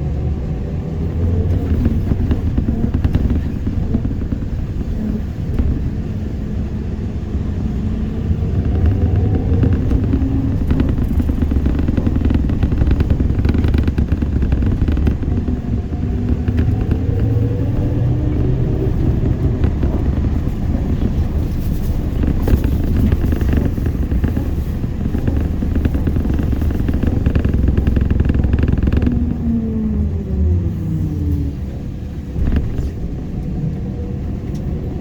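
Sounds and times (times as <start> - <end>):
road rumble: 0.0 - 35.0
rattles and clicks from body: 0.5 - 30.4, 31.0 - 33.7.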